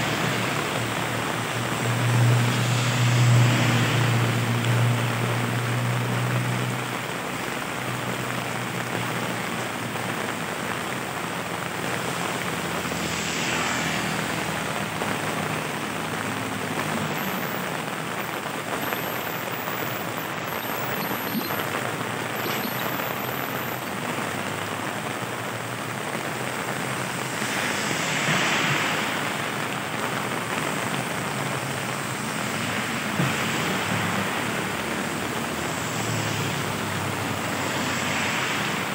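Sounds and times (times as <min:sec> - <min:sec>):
heavy rain on street: 0:00.0 - 0:38.9
tyres hissing on wet road: 0:00.0 - 0:38.9.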